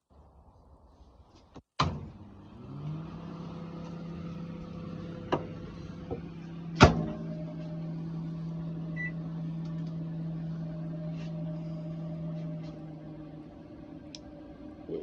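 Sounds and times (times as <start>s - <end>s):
microwave oven humming: 1.8s - 15.0s.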